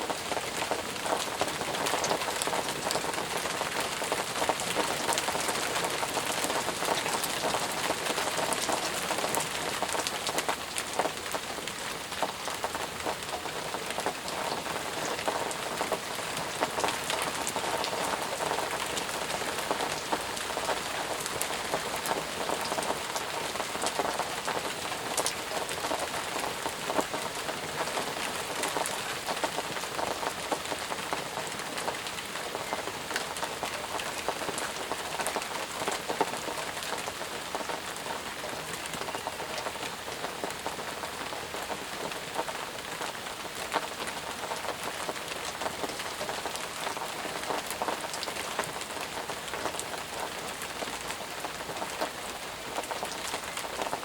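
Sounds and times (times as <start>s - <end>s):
rain falling: 0.0s - 54.0s
raindrops pattering: 0.0s - 54.0s.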